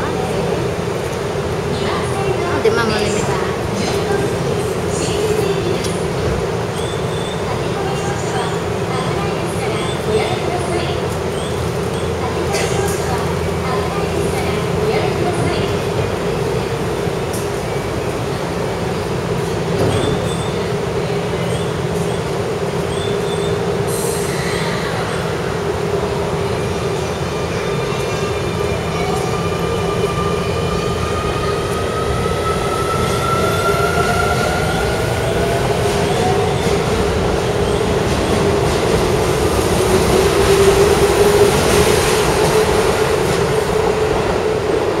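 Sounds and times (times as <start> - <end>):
train cars rumbling: 0.0 - 45.0.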